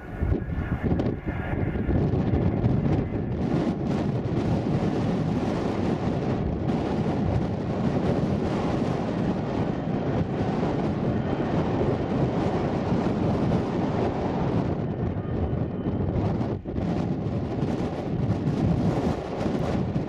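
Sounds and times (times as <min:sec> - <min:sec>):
jet engines roaring: 0:00.0 - 0:20.0
wind buffeting microphone: 0:00.0 - 0:20.0.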